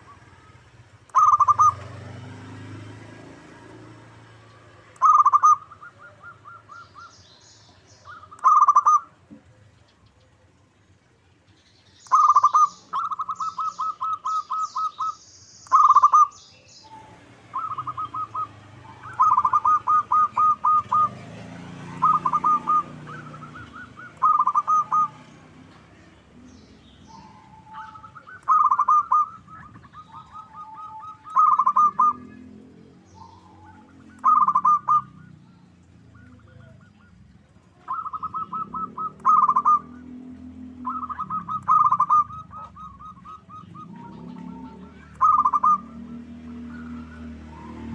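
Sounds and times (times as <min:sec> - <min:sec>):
dove cooing: 0:00.0 - 0:07.1, 0:08.0 - 0:09.6, 0:12.0 - 0:47.9
small birds chirping: 0:00.0 - 0:47.9.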